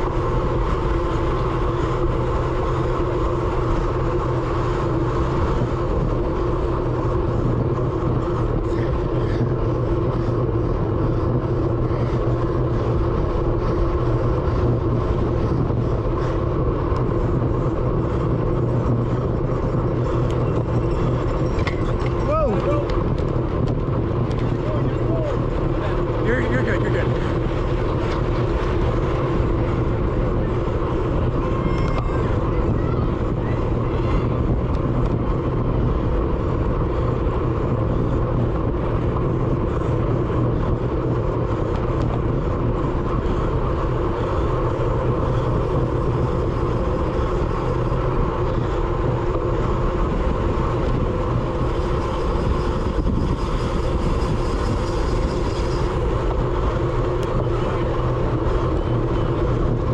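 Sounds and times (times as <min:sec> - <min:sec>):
rolling tyre noise: 0:00.0 - 0:59.9
wind buffeting microphone: 0:00.0 - 0:59.9.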